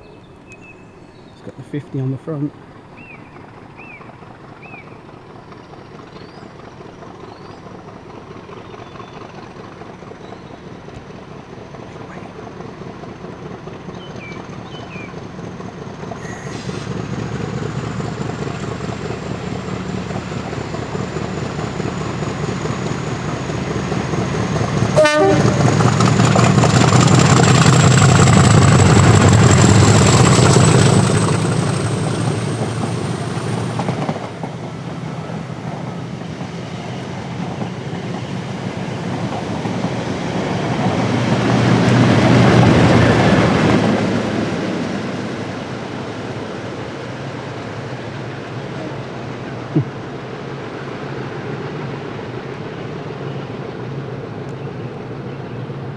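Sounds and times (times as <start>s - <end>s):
diesel locomotive engine passing: 0.0s - 55.9s.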